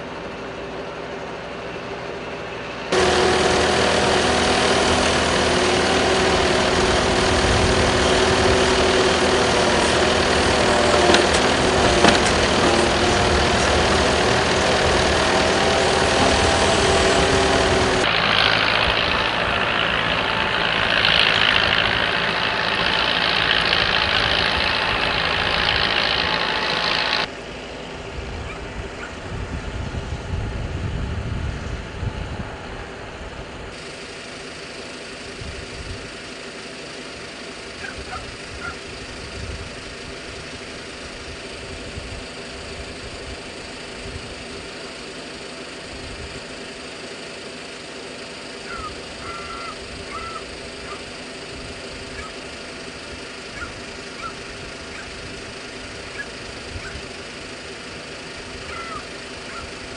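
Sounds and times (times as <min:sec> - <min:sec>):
farm machine engine running: 0:00.0 - 0:59.9.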